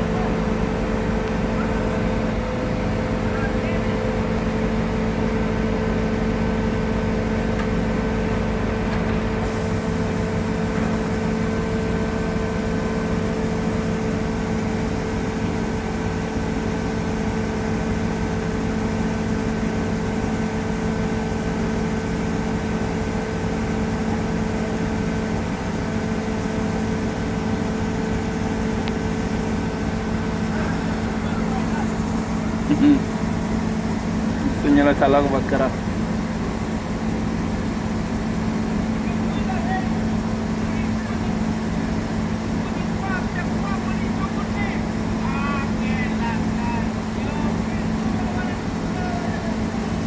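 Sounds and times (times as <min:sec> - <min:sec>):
crane engine drone: 0:00.0 - 0:50.0.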